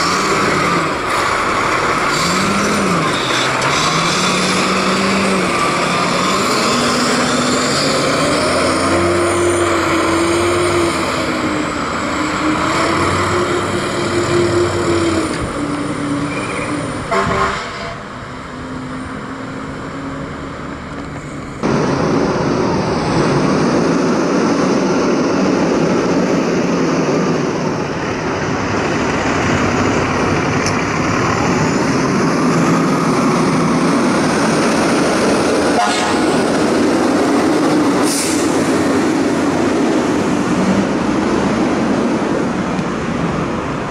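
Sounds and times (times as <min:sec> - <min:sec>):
fire truck engines running: 0:00.0 - 0:43.9.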